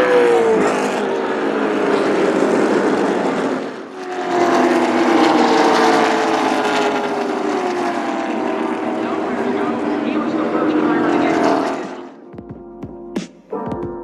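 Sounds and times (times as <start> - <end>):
race cars passing at speed: 0.0 - 12.3.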